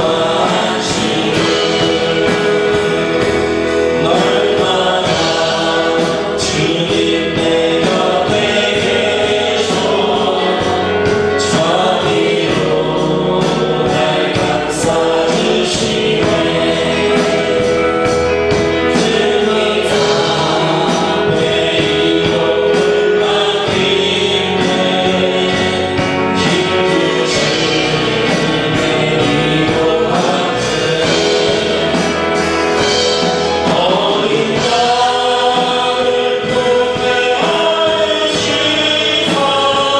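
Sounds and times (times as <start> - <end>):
congregation singing: 0.0 - 39.9
instrumental accompaniment with beat: 0.0 - 39.9.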